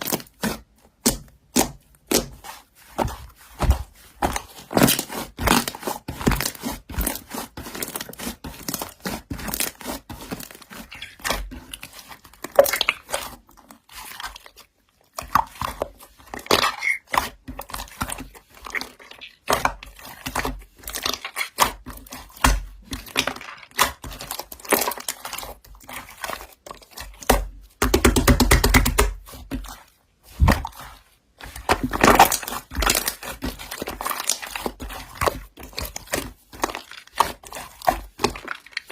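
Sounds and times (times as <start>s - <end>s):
slime crackling and popping: 3.7s - 14.6s, 15.2s - 29.3s, 30.4s - 38.9s.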